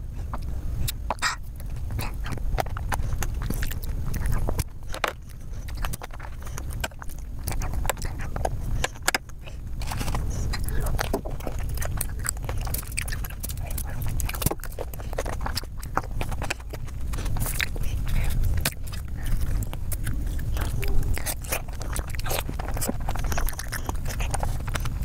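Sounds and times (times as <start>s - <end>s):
chewing juicy fruit: 0.0s - 25.0s
steady low hum: 0.0s - 25.0s
mouth clicks: 0.2s - 25.0s.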